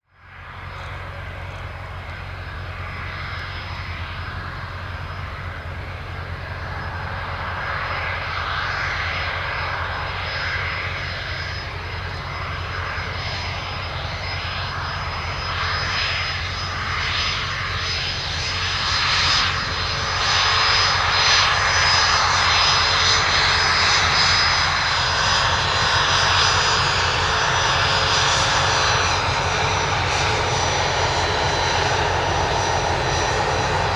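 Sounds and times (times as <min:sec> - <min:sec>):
jet engines running with high whine: 0:00.0 - 0:33.9.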